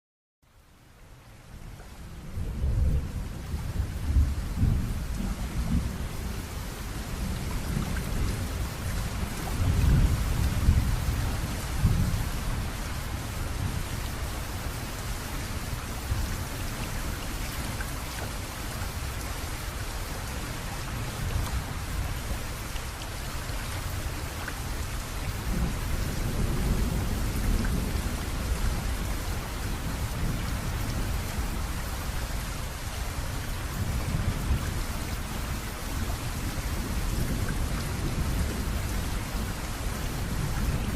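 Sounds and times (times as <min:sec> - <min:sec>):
rain pouring: 0:00.5 - 0:40.9.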